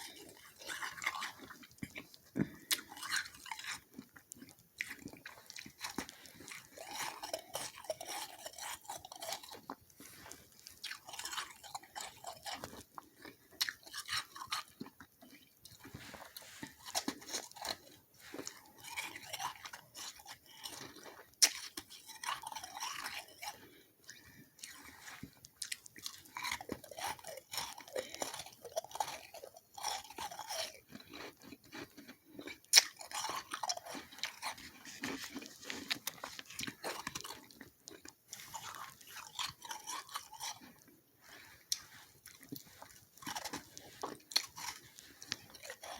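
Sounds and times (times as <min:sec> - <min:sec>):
chewing crunchy frost: 0:00.0 - 0:45.9.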